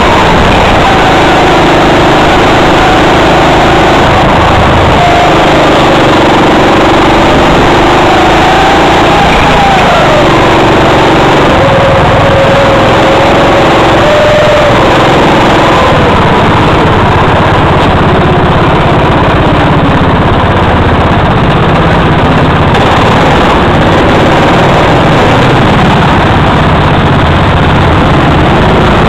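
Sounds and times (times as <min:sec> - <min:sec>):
go-kart engine running: 0:00.0 - 0:29.0.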